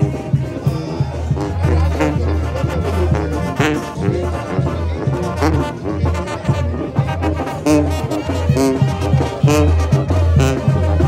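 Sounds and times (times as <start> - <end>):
sousaphone bass line: 0.0 - 11.0
steady drum beat: 0.0 - 11.0.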